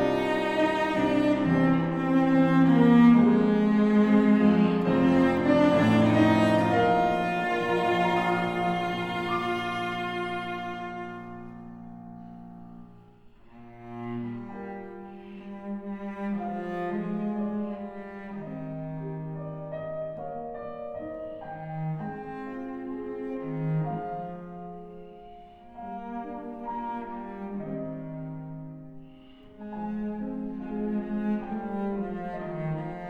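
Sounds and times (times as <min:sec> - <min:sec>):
cello playing slow melody: 0:00.0 - 0:33.0
piano accompaniment: 0:00.0 - 0:33.0.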